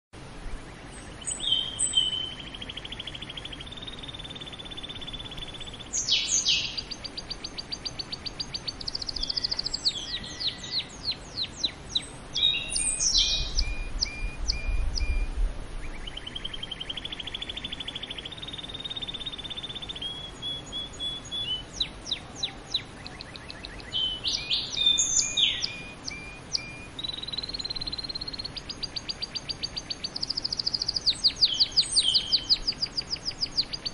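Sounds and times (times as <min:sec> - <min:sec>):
canary singing trills: 0:00.5 - 0:33.9.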